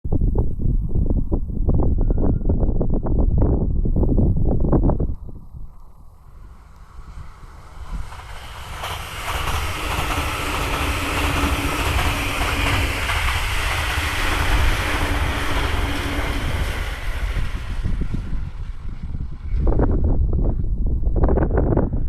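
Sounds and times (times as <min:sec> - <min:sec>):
wind buffeting microphone: 0:00.1 - 0:22.0
train hum: 0:00.6 - 0:22.0
electric train passing at speed: 0:01.7 - 0:22.0.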